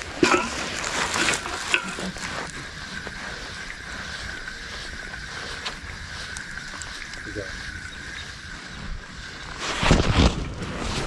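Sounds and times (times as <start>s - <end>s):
fishing reel whine: 0.9s - 9.9s.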